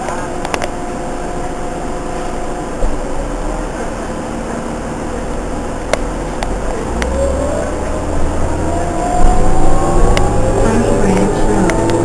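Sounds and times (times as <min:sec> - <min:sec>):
bus engine drone and whine: 0:00.0 - 0:12.0.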